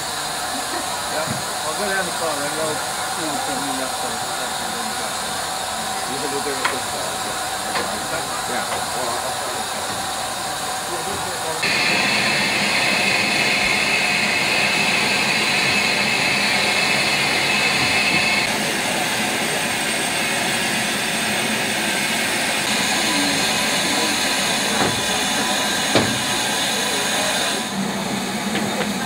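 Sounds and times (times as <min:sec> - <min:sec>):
loud hiss of escaping steam: 0:00.0 - 0:29.0.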